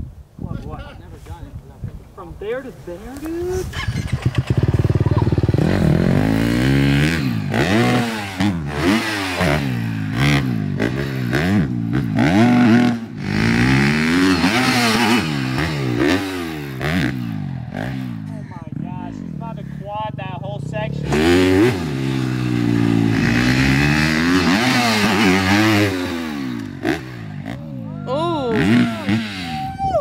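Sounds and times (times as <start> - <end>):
dirt bike engine revving: 3.5 - 29.8.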